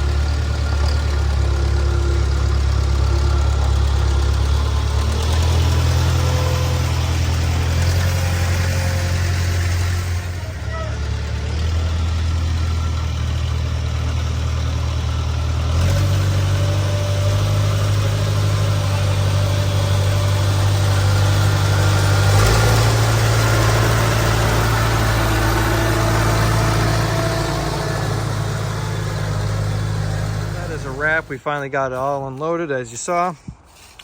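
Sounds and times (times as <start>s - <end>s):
engine running at low speed: 0.0s - 31.4s.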